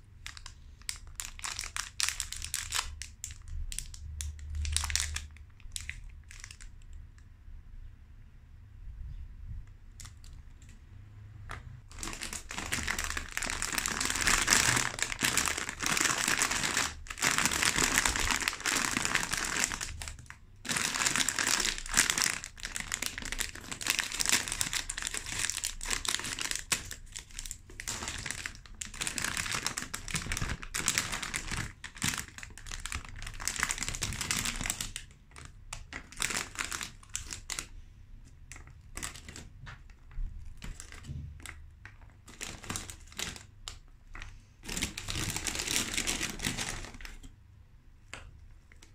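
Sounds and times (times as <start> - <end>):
plastic packet crinkling: 0.0 - 7.2, 10.0 - 10.8, 11.9 - 37.7, 38.5 - 47.3, 48.0 - 48.9.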